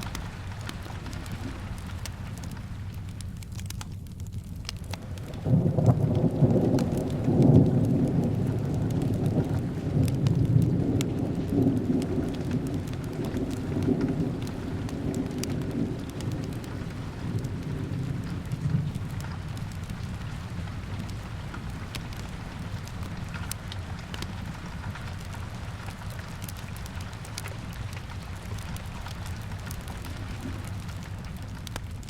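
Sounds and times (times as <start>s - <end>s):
fireplace crackles: 0.0s - 32.0s
steady rain: 0.0s - 32.0s
rolling thunder: 4.9s - 31.6s.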